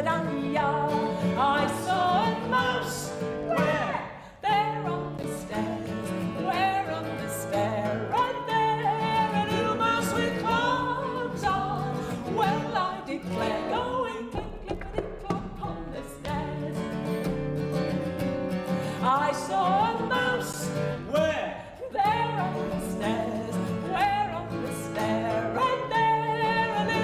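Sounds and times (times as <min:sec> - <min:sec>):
woman singing: 0:00.0 - 0:17.4, 0:18.6 - 0:27.0
strummed acoustic guitar: 0:00.0 - 0:27.0.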